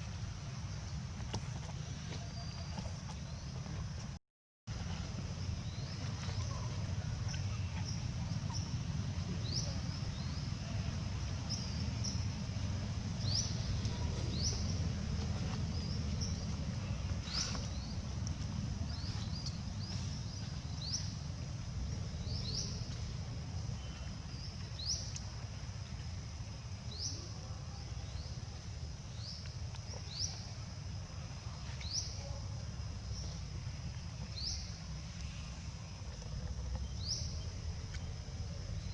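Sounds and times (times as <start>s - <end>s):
low rumble: 0.0s - 26.9s, 32.4s - 38.9s.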